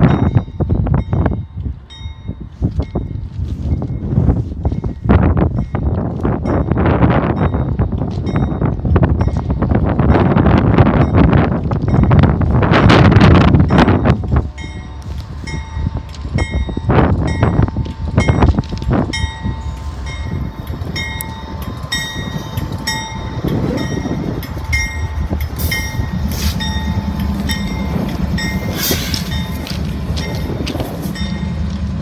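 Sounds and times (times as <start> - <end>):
diesel locomotives rumbling: 0.0 - 32.0.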